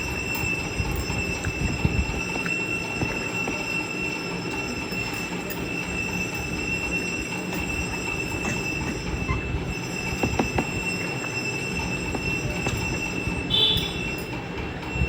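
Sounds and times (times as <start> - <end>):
high-pitched whine: 0.0 - 15.0
rumbling background noise: 0.0 - 15.0.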